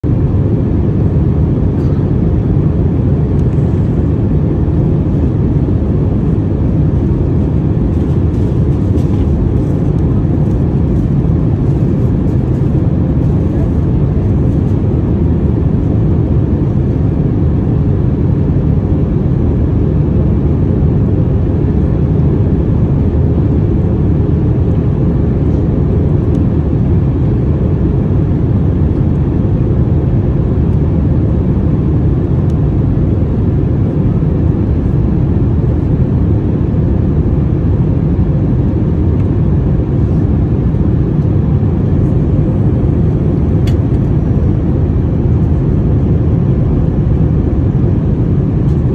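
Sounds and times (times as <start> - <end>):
airliner cabin engine and airflow noise: 0.0 - 48.9
faint steady hum: 0.0 - 48.9.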